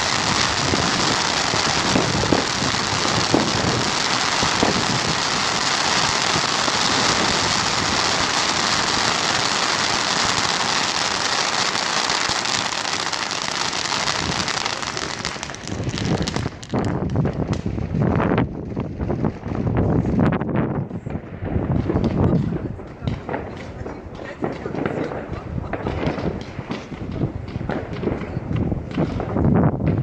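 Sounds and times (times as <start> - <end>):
fireworks crackling and hissing: 0.0 - 30.0.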